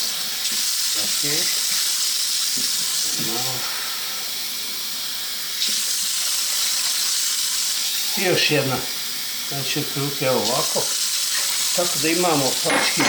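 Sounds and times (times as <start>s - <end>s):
tap water running: 0.0s - 13.0s.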